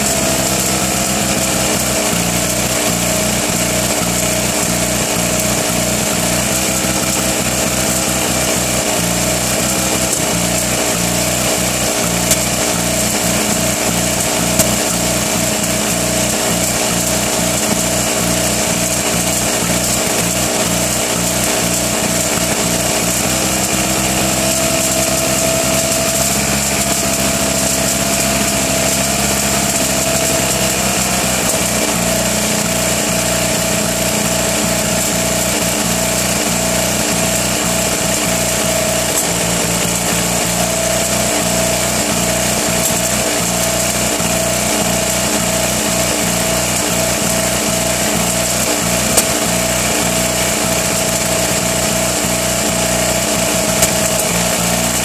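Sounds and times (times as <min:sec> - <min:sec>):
engine running rough: 0:00.0 - 0:55.0.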